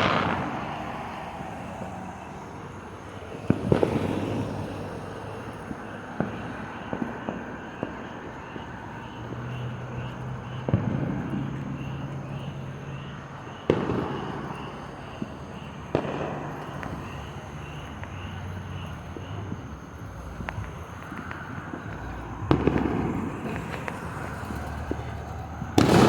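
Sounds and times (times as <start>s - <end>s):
fireworks bangs: 0.0s - 26.0s
small firework pops: 0.0s - 26.0s.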